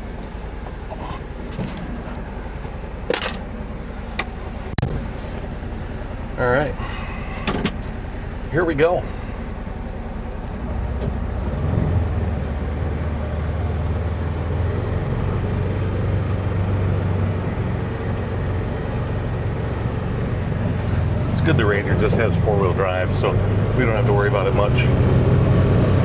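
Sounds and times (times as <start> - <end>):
utility vehicle engine running: 0.0 - 26.0.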